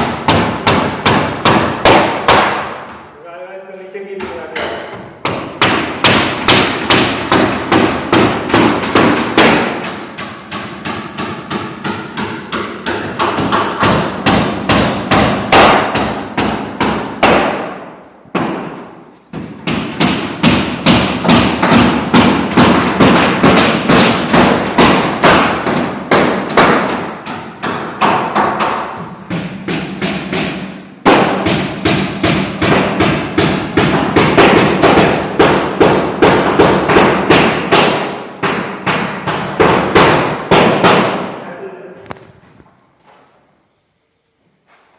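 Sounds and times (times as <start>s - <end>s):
rapid hammering: 0.0s - 3.2s, 4.0s - 41.4s.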